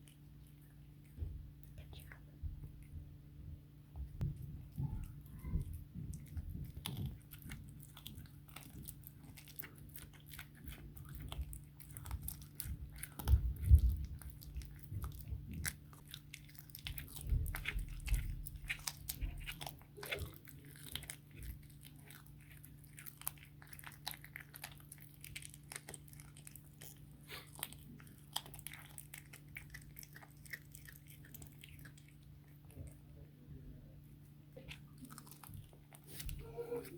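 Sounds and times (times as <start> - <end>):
steady low hum: 0.0 - 36.9
cat crunching bones: 4.2 - 33.1, 34.6 - 36.9.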